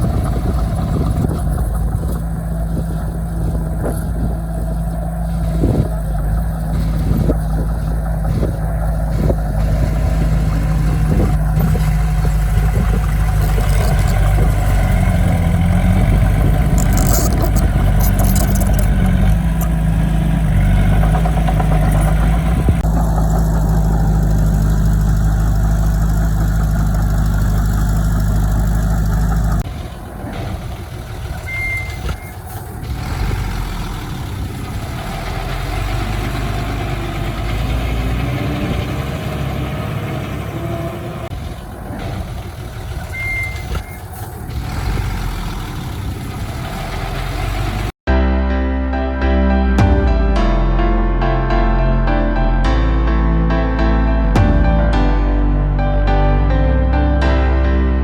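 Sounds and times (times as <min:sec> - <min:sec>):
heavy diesel engines running: 0:00.0 - 0:48.0.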